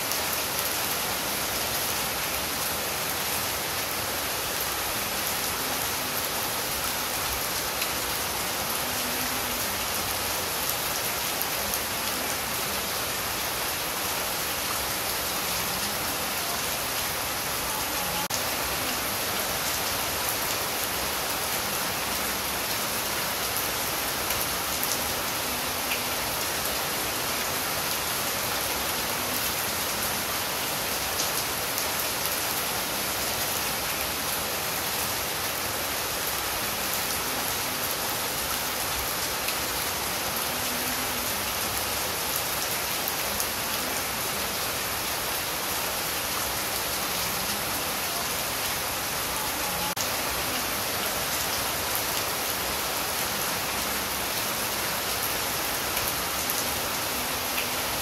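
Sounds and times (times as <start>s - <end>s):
rain on foliage: 0.0s - 58.0s.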